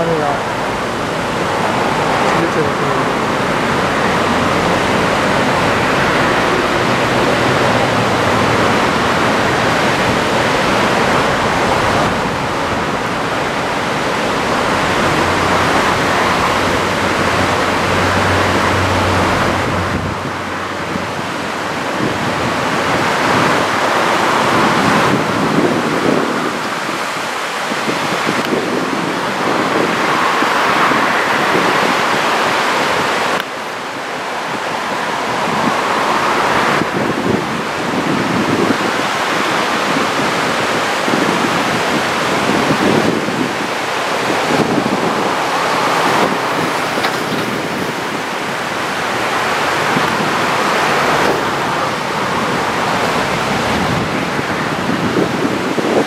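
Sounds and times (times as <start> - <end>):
surf washing up a sandy beach: 0.0 - 56.0
wind on microphone: 0.0 - 56.0.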